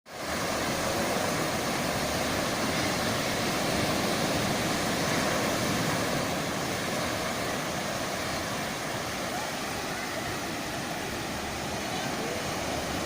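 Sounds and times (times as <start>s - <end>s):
rough sea waves breaking: 0.1s - 13.0s.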